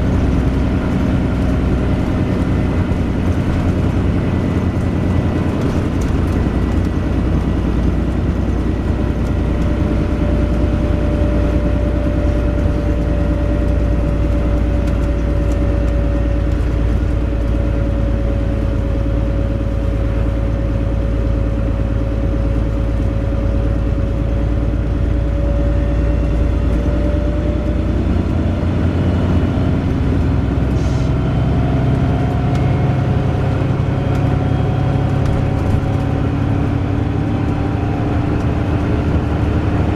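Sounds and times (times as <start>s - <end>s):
bus engine drone and whine: 0.0s - 39.9s.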